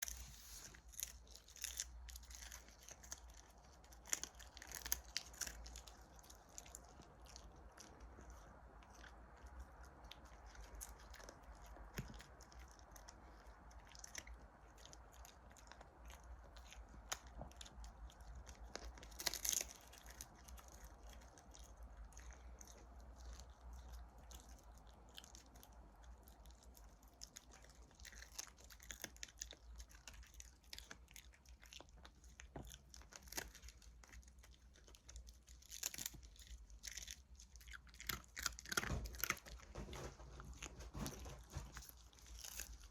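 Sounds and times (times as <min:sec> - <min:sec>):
dog crunching a treat: 0:00.0 - 0:42.9.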